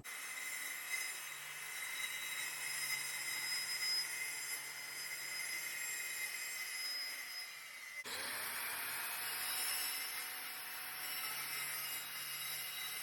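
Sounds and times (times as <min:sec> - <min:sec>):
electric saw cutting wood: 0:00.0 - 0:13.0.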